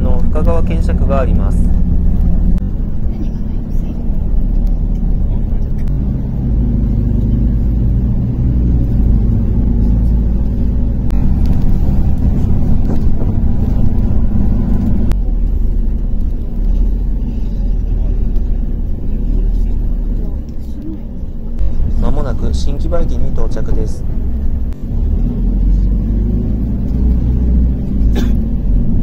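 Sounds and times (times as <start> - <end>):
bus engine and road noise: 0.0 - 29.0.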